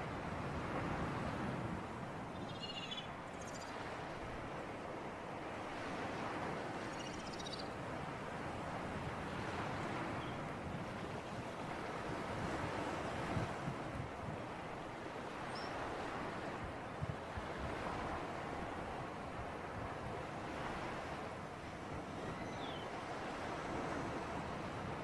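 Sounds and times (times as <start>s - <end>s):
waves: 0.0s - 25.0s
wind: 0.0s - 25.0s.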